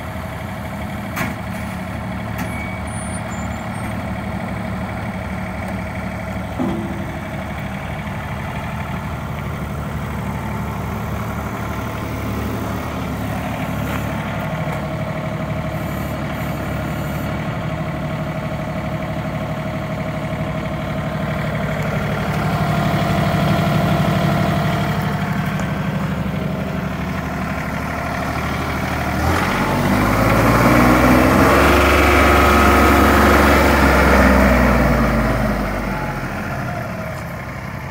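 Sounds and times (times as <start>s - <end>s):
tractor diesel engine idling: 0.0s - 37.9s
tractor engine revving: 3.3s - 37.9s.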